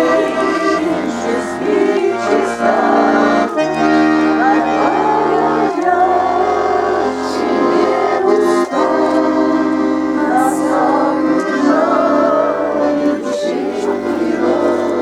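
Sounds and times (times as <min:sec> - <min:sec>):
accordion playing: 0:00.0 - 0:15.0
person singing folk song: 0:00.0 - 0:15.0.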